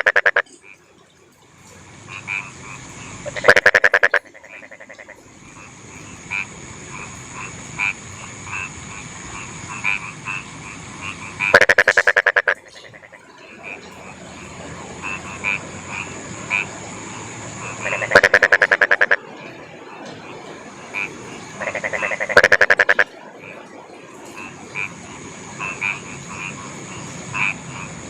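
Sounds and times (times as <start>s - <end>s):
frogs croaking: 0.0s - 28.0s
steady high hiss: 0.0s - 28.0s.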